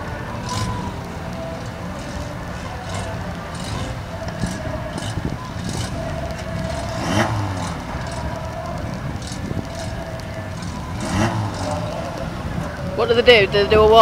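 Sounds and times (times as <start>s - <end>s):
car engines rumbling: 0.0s - 14.0s.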